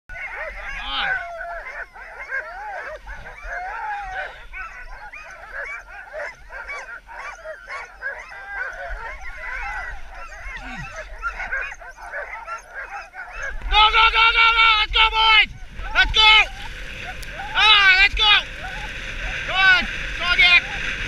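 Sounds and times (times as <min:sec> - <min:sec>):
sled dogs barking and yelping: 0:00.1 - 0:21.0.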